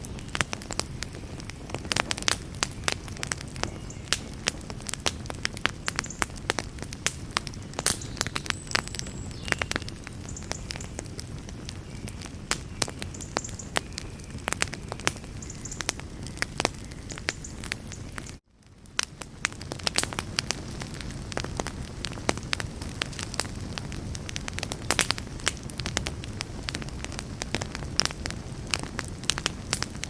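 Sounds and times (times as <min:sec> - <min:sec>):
campfire crackling: 0:00.0 - 0:30.0
flames rumbling: 0:00.0 - 0:30.0.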